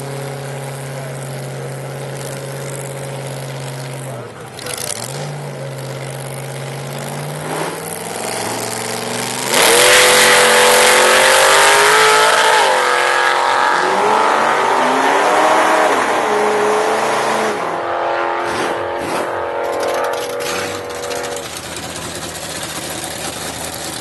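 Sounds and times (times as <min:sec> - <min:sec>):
supercharged drag truck engine: 0:00.0 - 0:24.0.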